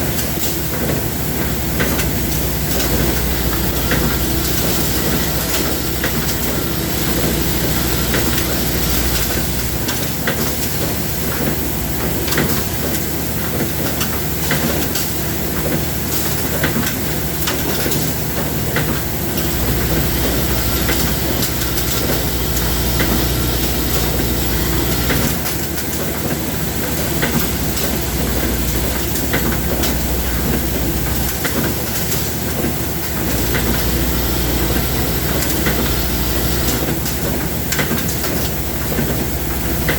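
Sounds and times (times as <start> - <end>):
machine hiss and hum: 0.0 - 39.9.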